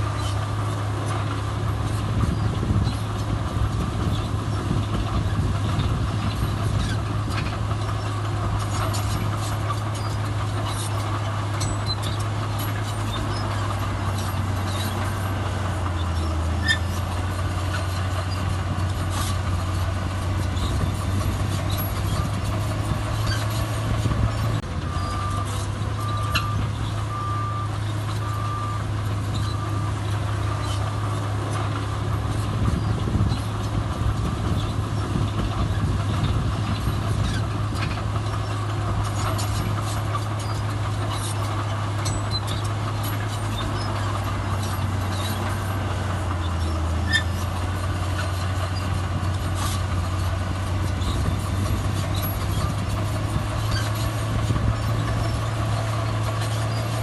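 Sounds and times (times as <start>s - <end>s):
heavy diesel machinery droning: 0.0s - 57.0s.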